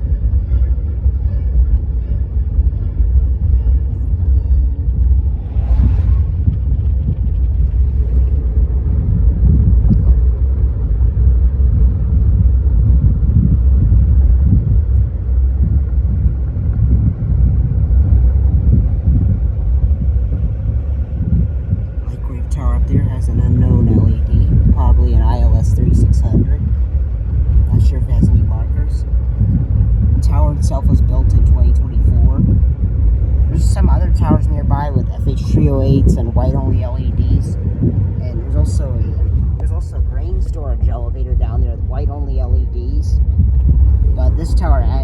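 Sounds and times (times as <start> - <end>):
faint music: 0.0 - 45.0
loud low rumble: 0.0 - 45.0.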